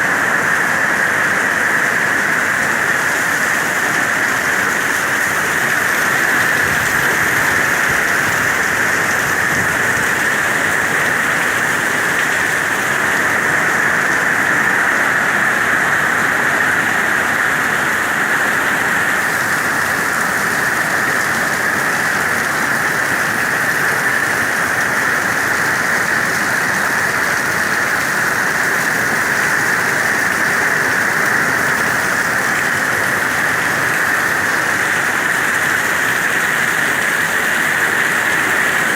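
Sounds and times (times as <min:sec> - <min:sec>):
heavy rain splashing on ground: 0:00.0 - 0:38.9.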